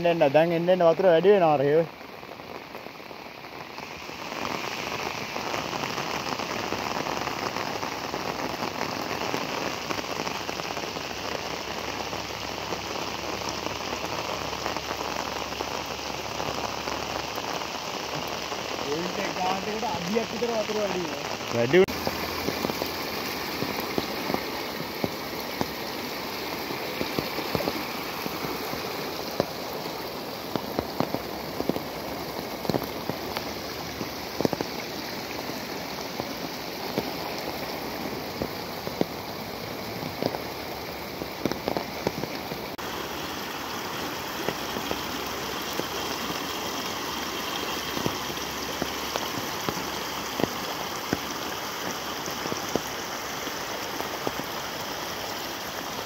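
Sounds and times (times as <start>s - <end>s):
floodwater rushing: 0.0s - 56.0s
heavy rain: 0.0s - 56.0s
raindrops tapping: 0.0s - 56.0s.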